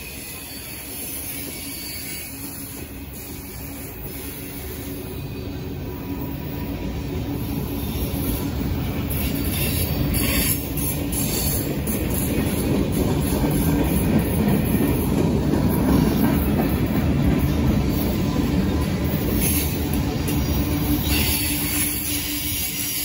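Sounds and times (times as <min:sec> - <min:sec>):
train wheels running on rails: 0:00.0 - 0:23.0.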